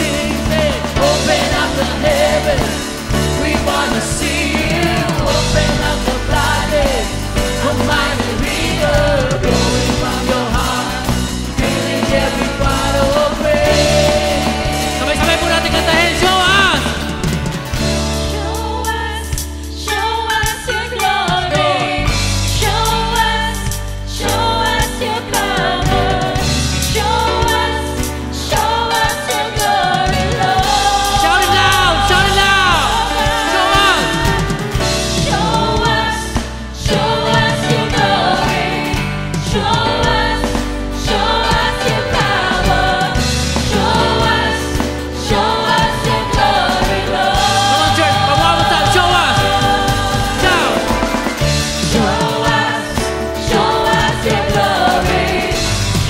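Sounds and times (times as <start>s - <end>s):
acoustic guitar: 0.0s - 56.0s
drums: 0.0s - 56.0s
electric bass: 0.0s - 56.0s
people singing: 0.0s - 56.0s.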